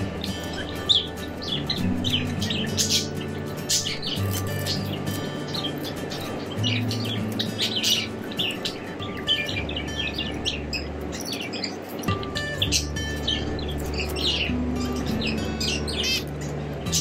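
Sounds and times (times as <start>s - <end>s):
background music with low notes: 0.0s - 17.0s
finches chirping: 0.0s - 17.0s.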